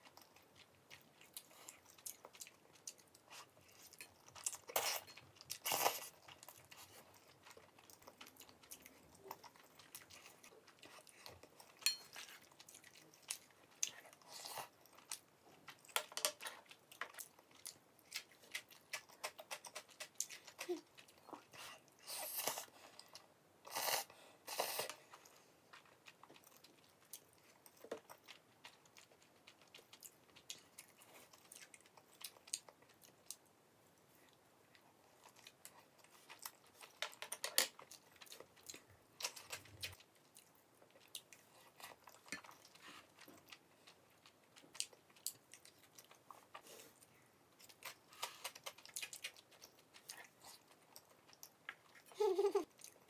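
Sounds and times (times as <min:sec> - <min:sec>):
person chewing crunchy food: 0:00.0 - 0:33.5, 0:34.2 - 0:53.0.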